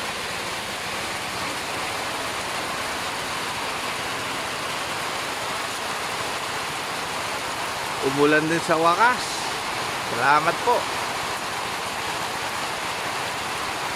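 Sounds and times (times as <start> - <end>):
steady rain hiss: 0.0 - 13.9.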